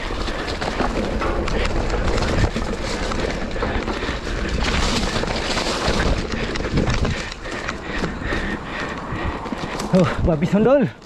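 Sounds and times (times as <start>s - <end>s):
bike knocks and rattles: 0.0s - 11.0s
tyre noise on dirt and leaves: 0.0s - 11.0s
wind rushing over microphone: 0.8s - 10.6s.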